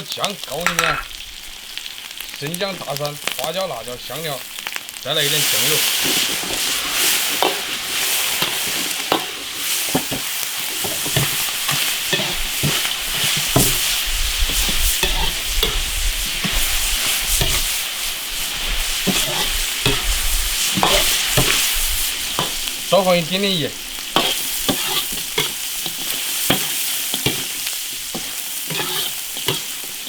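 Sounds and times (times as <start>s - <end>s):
meat sizzling in a wok: 0.0s - 30.0s
stirring scraping a pan: 5.3s - 30.0s.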